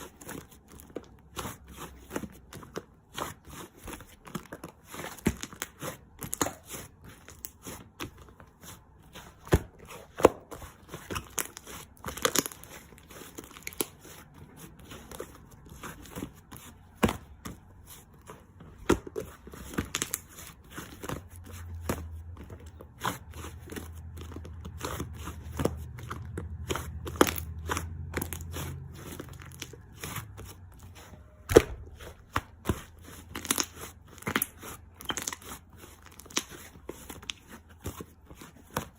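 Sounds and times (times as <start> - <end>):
crinkling and crackling: 0.0 - 38.9.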